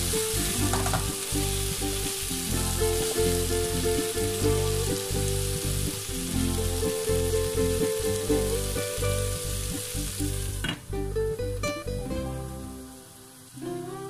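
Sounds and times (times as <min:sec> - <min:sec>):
background music: 0:00.0 - 0:14.0
vegetables sizzling in hot oil: 0:00.0 - 0:14.0.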